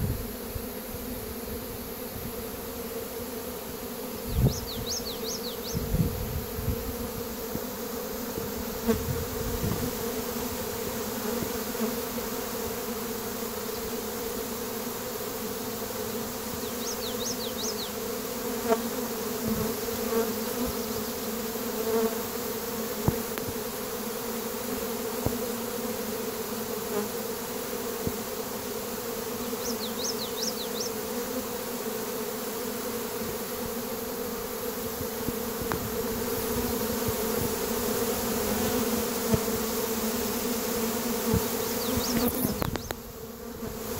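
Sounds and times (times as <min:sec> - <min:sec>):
honeybees humming: 0:00.0 - 0:43.9.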